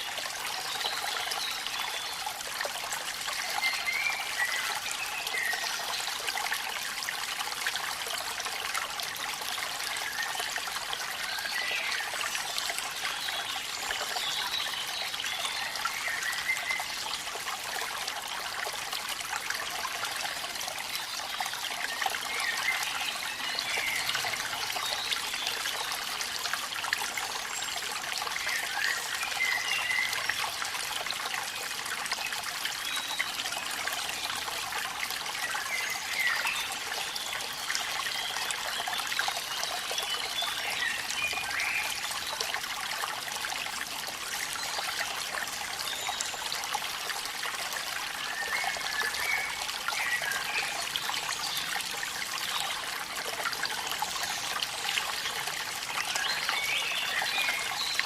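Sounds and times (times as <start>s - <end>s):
waterfall: 0.0s - 58.0s.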